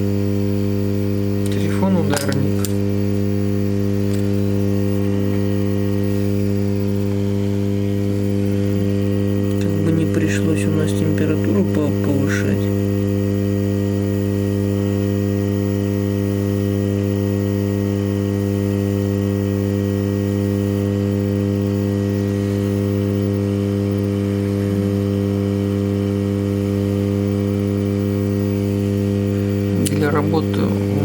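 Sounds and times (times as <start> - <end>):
hot air station humming: 0.0 - 31.0.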